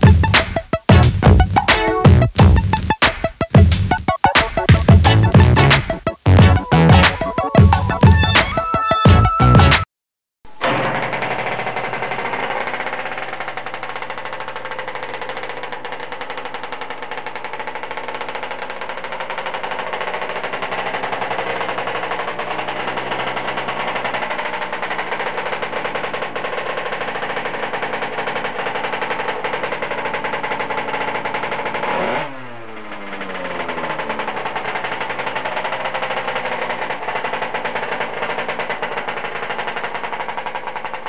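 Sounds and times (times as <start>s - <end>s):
scooter two-stroke engine running: 0.0s - 8.6s, 10.8s - 41.0s.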